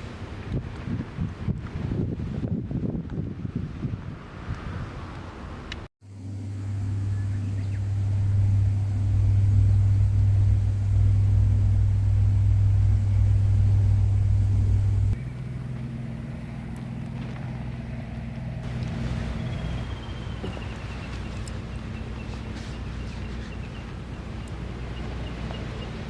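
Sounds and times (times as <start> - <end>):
engine idling hum: 5.0 - 26.0.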